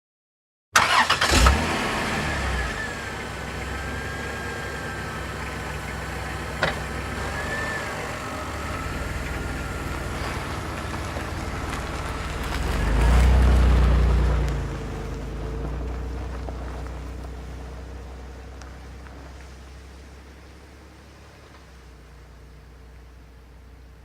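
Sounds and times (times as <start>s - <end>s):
car engine starting and idling: 0.8s - 24.0s.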